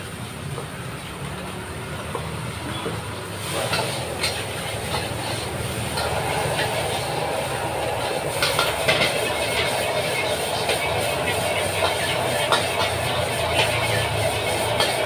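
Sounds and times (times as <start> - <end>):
fried rice sizzling in a wok: 0.0 - 15.0
gas burner rumbling: 0.0 - 15.0
metal spatula scraping a wok: 2.8 - 15.0.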